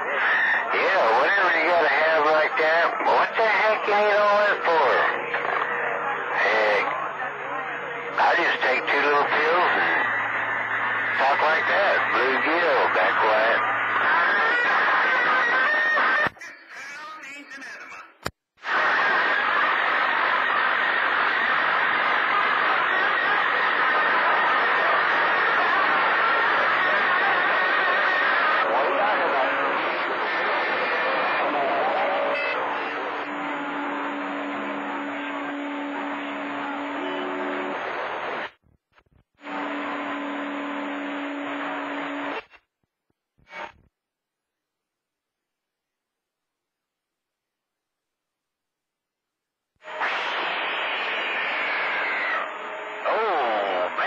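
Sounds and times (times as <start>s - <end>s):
radio static hiss: 0.0s - 42.7s, 43.4s - 43.9s, 49.8s - 54.0s.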